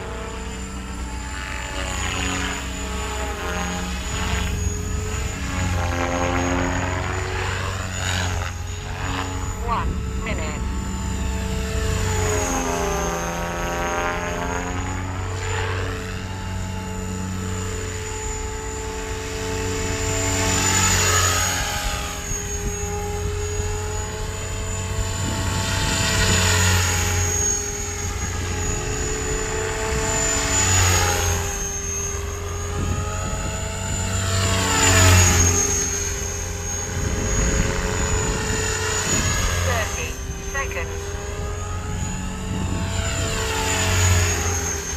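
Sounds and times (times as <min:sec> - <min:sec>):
rc helicopter whine: 0:00.0 - 0:44.9.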